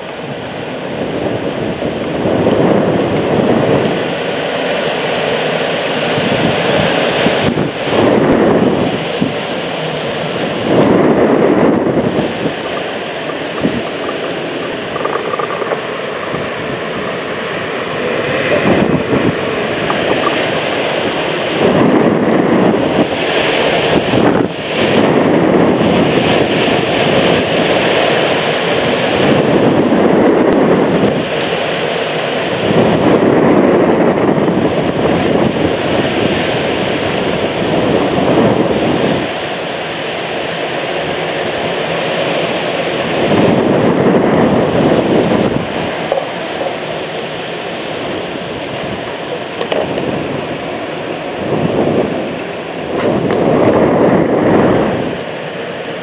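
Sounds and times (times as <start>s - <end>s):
gusty wind: 0.0s - 56.0s
heavy rain: 0.0s - 56.0s
wind buffeting microphone: 0.0s - 56.0s.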